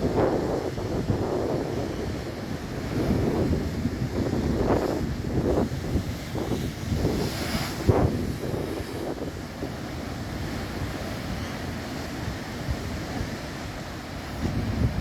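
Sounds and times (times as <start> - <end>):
surf breaking on coast: 0.0 - 15.0
wind buffeting microphone: 0.0 - 15.0.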